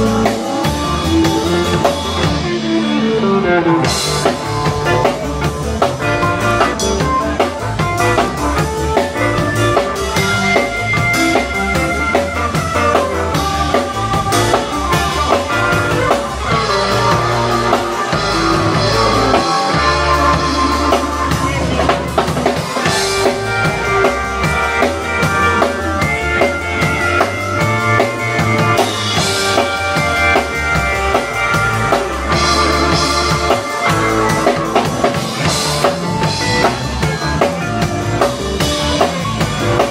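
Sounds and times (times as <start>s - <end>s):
instrumental rock band playing: 0.0s - 39.9s.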